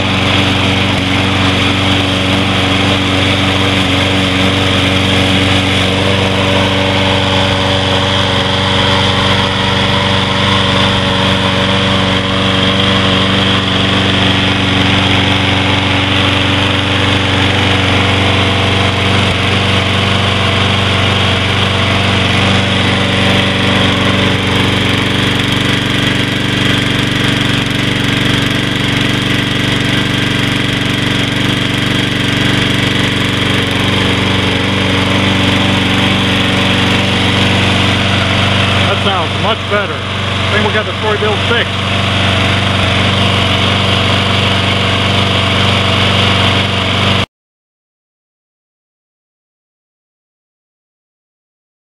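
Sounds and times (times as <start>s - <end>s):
lawn mower engine running: 0.0s - 47.3s.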